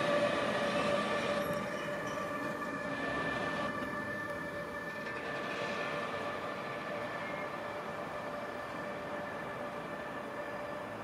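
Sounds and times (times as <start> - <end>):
electric locomotive whine: 0.0 - 11.0
wheels running on rails: 0.0 - 11.0.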